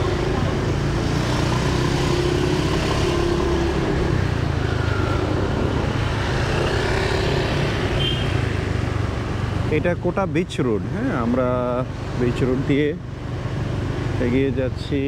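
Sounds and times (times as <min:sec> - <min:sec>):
surrounding cars and scooters: 0:00.0 - 0:15.0.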